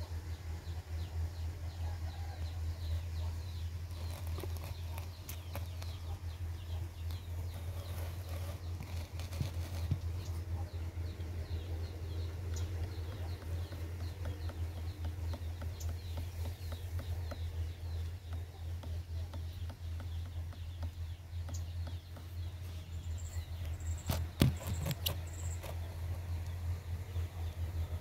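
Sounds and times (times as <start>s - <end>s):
faint regular ticking: 3.8s - 27.5s.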